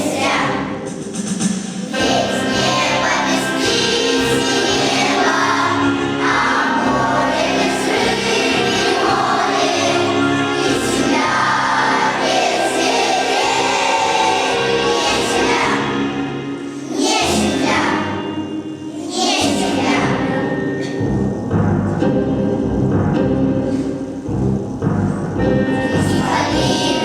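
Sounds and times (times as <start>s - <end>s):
children's choir singing: 0.0s - 21.4s, 25.4s - 27.0s
musical accompaniment: 0.0s - 27.0s.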